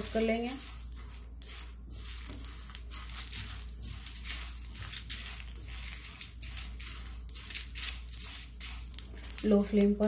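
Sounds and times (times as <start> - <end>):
spatula scraping spices in pan: 0.0 - 10.0.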